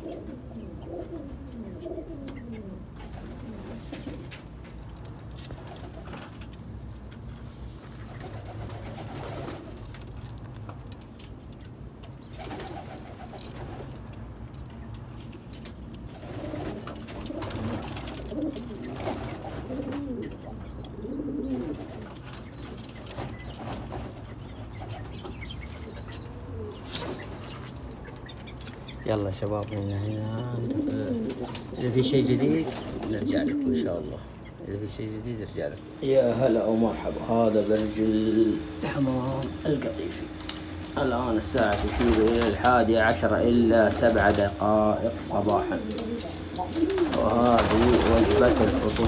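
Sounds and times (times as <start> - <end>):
pigeons cooing: 0.0 - 4.6, 7.8 - 10.0, 12.2 - 14.1, 16.0 - 49.0
steady low hum: 0.0 - 49.0.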